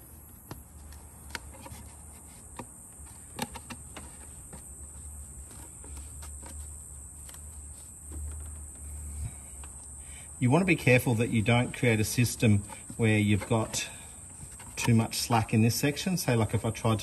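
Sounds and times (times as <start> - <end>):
insect chirring: 1.2 - 17.0.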